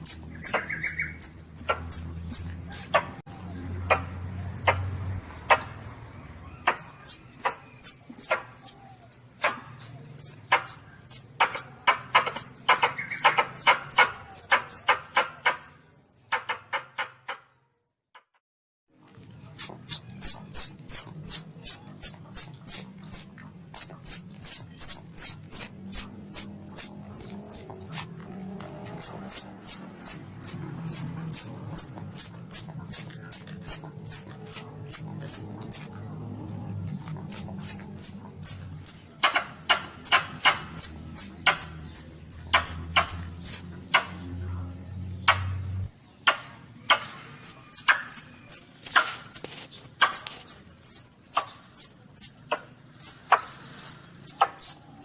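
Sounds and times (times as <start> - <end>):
civet squeaky chirps: 0.0 - 3.2, 5.5 - 16.6, 19.4 - 36.1, 36.8 - 44.2, 46.9 - 55.0.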